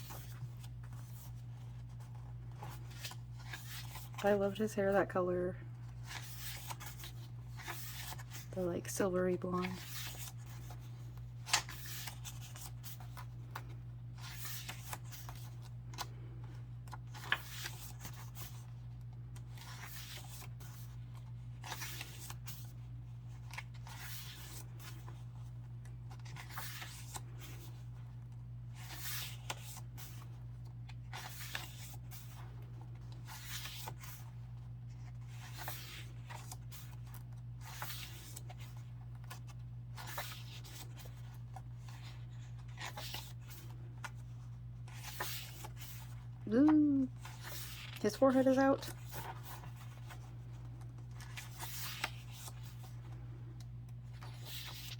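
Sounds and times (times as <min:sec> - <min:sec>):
photo book pages turning: 0:00.0 - 0:05.0, 0:05.6 - 0:54.9.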